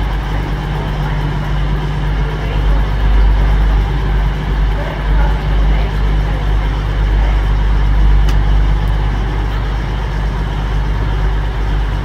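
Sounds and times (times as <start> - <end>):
diesel train engines idling: 0.0 - 12.0.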